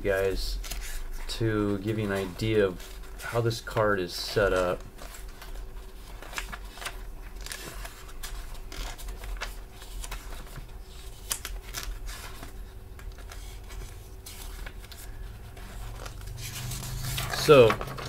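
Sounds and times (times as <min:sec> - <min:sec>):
low electrical hum: 0:00.0 - 0:18.0
paper rustling: 0:00.2 - 0:18.0.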